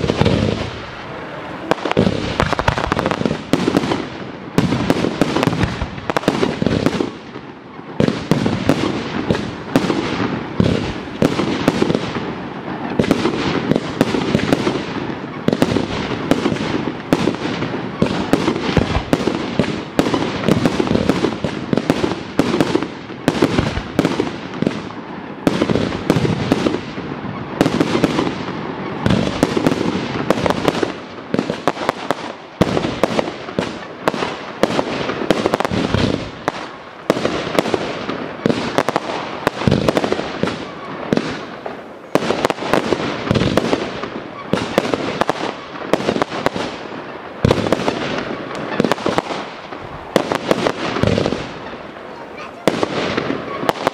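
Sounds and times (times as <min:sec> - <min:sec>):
fireworks launching and bursting: 0:00.0 - 0:53.9.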